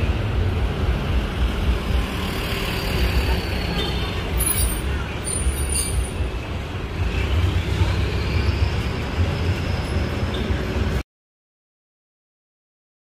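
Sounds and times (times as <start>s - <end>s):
rumble of passing vehicles: 0.0s - 11.0s.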